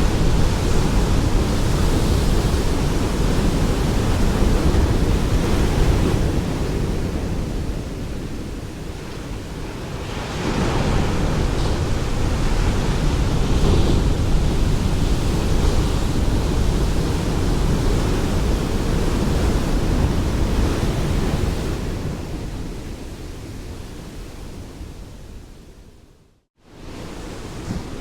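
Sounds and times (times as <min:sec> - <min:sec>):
waves breaking: 0:00.0 - 0:22.7, 0:26.7 - 0:28.0.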